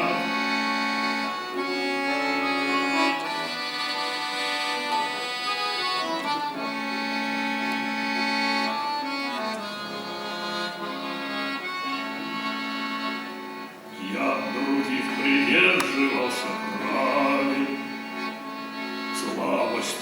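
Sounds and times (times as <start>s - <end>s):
accordion playing chords: 0.0s - 20.0s.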